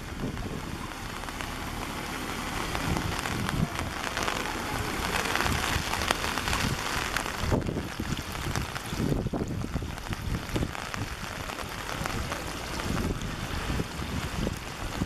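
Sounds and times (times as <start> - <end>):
floodwater rushing across street: 0.0 - 15.0.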